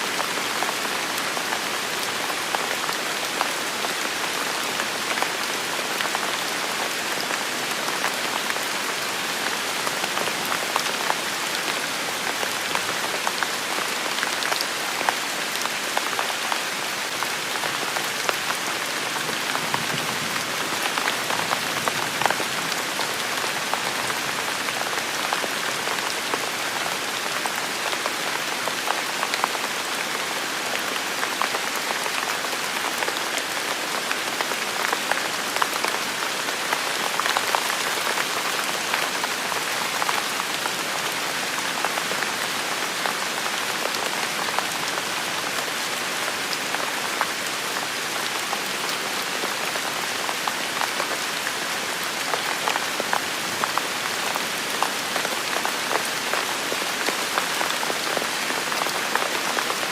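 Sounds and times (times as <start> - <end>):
steady rain on hard surfaces: 0.0 - 59.9.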